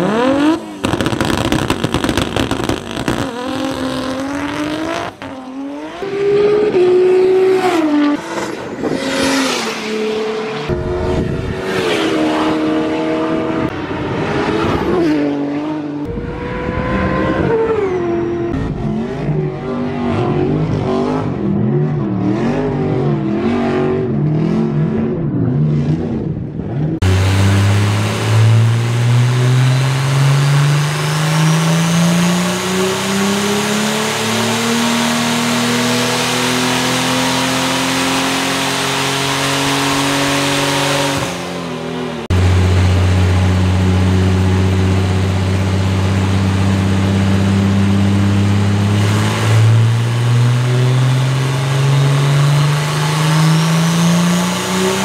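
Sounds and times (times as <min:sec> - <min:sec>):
high turbo whine: 0:00.0 - 0:23.4, 0:24.9 - 0:55.0
car engine revving: 0:00.0 - 0:55.0
engine on dyno climbing revs: 0:00.0 - 0:55.0.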